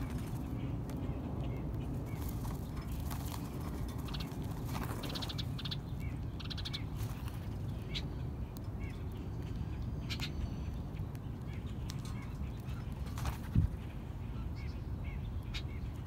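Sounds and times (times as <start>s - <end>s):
short bird chips: 0.0s - 14.6s
steady low rumble: 0.0s - 16.0s.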